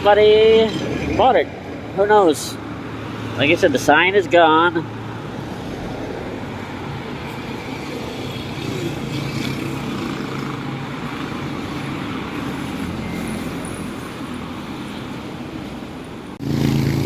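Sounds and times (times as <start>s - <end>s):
road noise: 0.0s - 17.0s
vehicle engines running: 0.0s - 17.0s.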